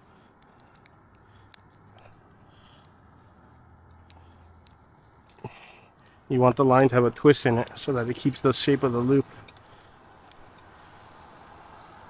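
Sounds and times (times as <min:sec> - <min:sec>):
cable rustling and clicking: 0:00.0 - 0:12.0
faint low hum: 0:00.0 - 0:12.0.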